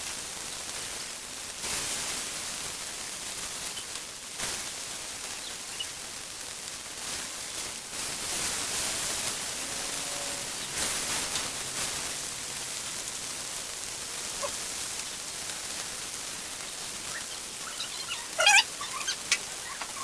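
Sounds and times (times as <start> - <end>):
fish sizzling on a griddle: 0.0 - 20.0.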